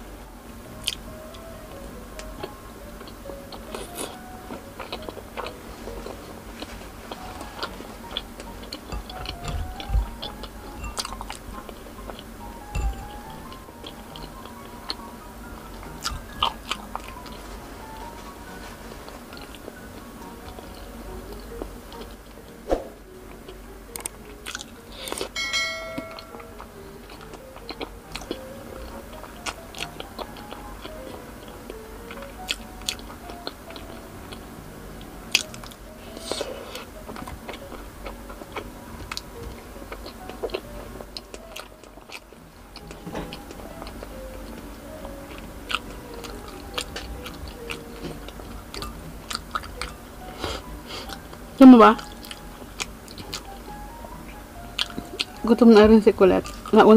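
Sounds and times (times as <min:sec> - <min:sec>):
soft background music: 0:00.0 - 0:56.9
biting and wet chewing: 0:00.7 - 0:56.9.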